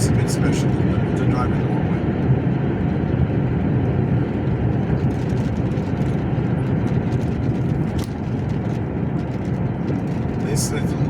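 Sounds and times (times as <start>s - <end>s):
truck engine and tyre drone: 0.0s - 11.0s.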